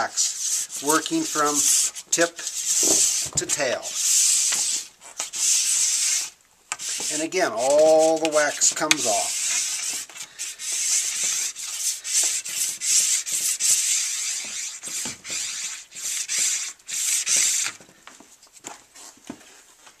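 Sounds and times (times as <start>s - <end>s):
plastic scraper scraping ski base: 0.1s - 17.8s.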